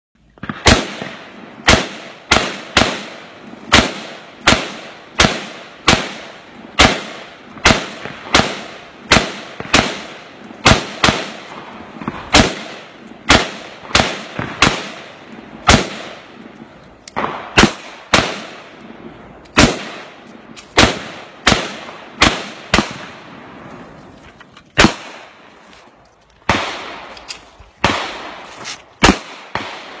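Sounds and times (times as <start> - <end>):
rifle gunshots with echo: 0.4 - 16.5, 17.1 - 23.7, 24.8 - 25.5, 26.5 - 27.2, 27.8 - 30.0.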